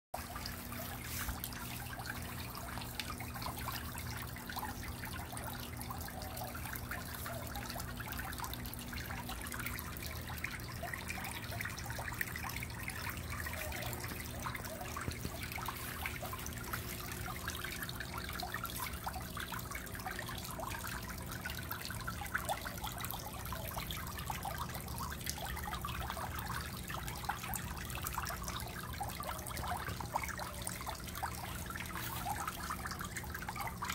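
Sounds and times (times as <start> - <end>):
low steady hum: 0.2 - 33.9
water trickling into pond: 0.2 - 33.9.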